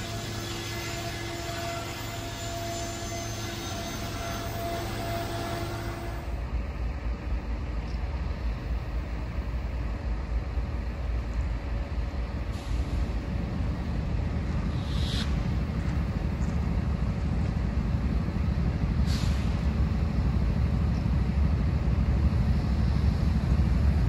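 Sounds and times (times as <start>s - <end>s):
diesel locomotives rumbling: 0.0s - 24.0s.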